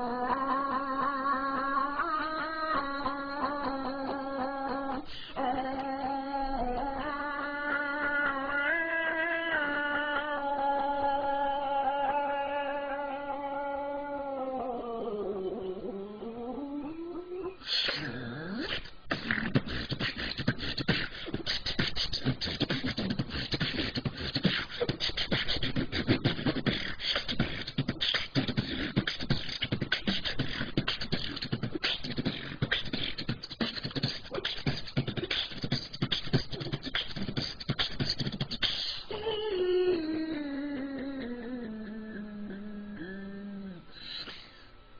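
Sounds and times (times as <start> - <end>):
woman beatboxing: 0.0 - 44.4.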